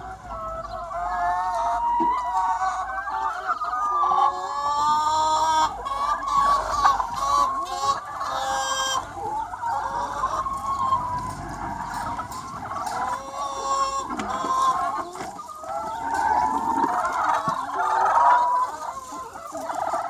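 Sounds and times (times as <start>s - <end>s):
chickens clucking: 0.0s - 20.0s
long bright chicken calls: 0.0s - 20.0s.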